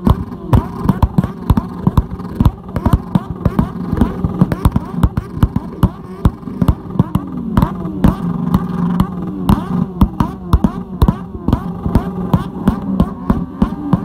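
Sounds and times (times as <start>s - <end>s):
engines revving: 0.0s - 14.0s
motorcycle engines at rev limiter: 0.0s - 14.0s
sharp exhaust bangs: 0.0s - 14.0s.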